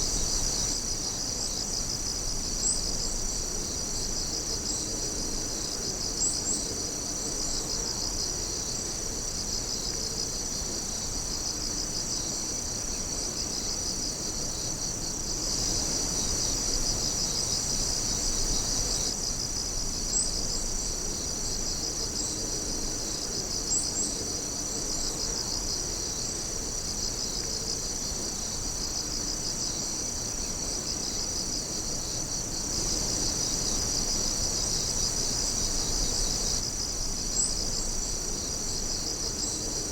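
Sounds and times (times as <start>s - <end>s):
high insect chirps: 0.0s - 22.4s, 23.0s - 39.9s
pulsing insect trill: 0.0s - 22.4s, 23.0s - 39.9s
night insects trilling: 0.0s - 39.9s.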